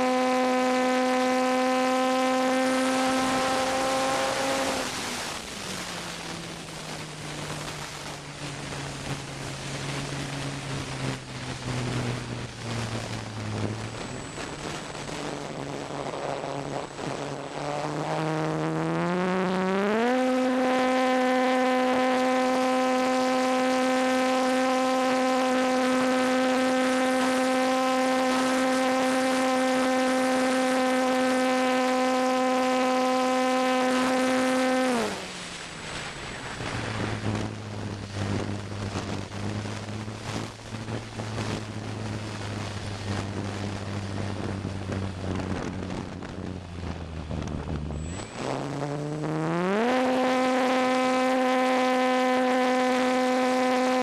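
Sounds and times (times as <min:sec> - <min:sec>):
electric motor and propeller whine: 0:00.0 - 0:54.0
wind rushing over microphone: 0:01.8 - 0:54.0.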